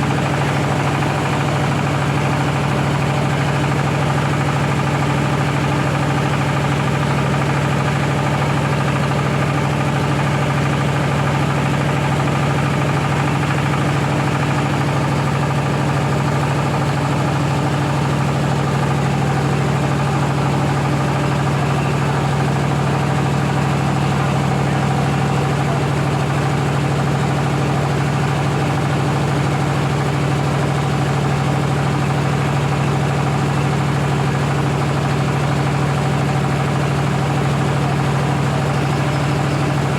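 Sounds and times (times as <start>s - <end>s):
rice milling machine droning: 0.0s - 39.9s.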